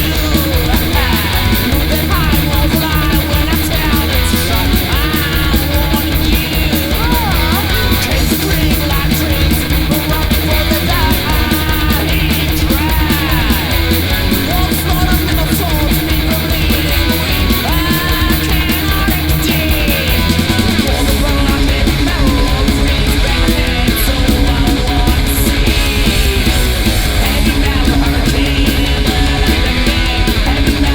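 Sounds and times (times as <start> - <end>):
distorted electric guitars: 0.0 - 30.9
fast driving drums: 0.0 - 30.9
metal band playing: 0.0 - 30.9.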